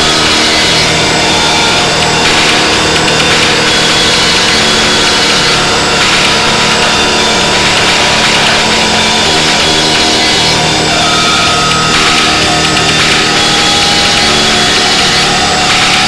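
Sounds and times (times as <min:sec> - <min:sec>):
dense wall of noise: 0:00.0 - 0:16.0
steady held drone tones: 0:00.0 - 0:16.0.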